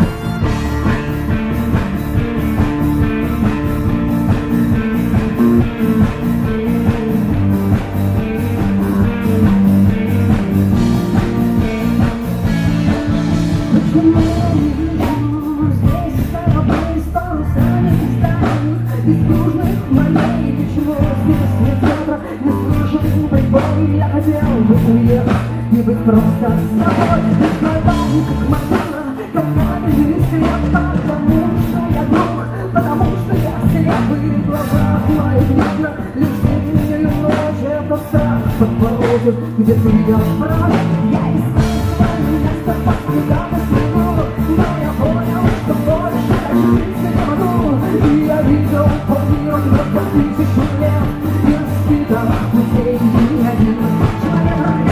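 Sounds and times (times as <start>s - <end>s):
live rock band playing: 0.0s - 54.9s
woman singing lead: 0.0s - 54.9s.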